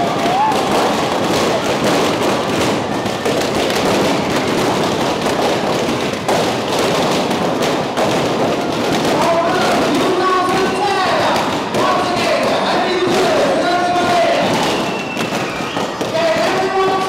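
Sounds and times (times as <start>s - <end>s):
fireworks crackling and popping: 0.0s - 17.0s
large crowd noise: 0.0s - 17.0s.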